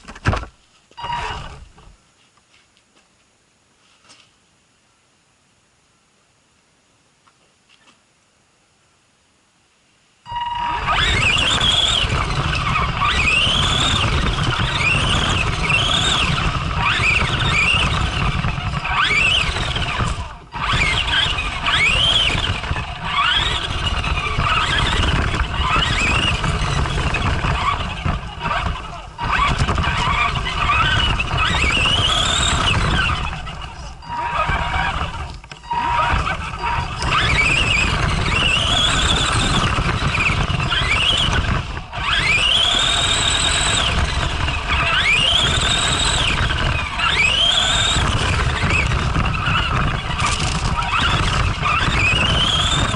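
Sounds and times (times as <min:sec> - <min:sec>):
electric motor whining: 0:01.0 - 0:01.8, 0:10.3 - 0:52.9.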